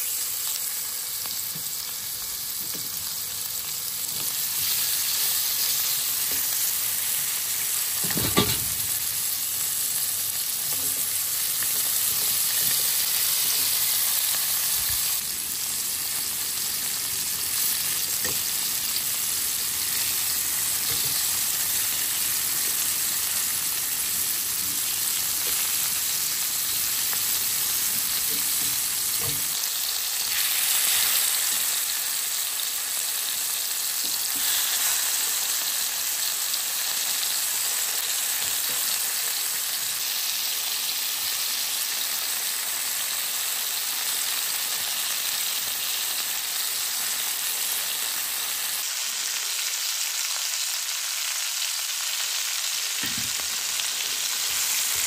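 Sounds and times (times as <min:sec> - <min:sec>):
steaks sizzling in a frying pan: 0:00.0 - 0:55.0.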